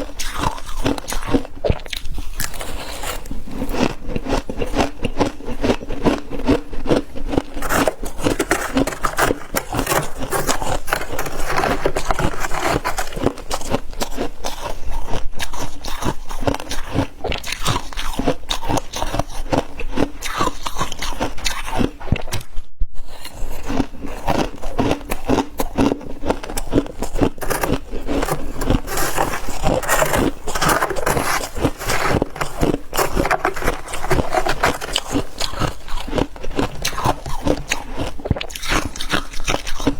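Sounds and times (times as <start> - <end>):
chewing crunchy frost: 0.0 - 22.5, 23.1 - 39.9.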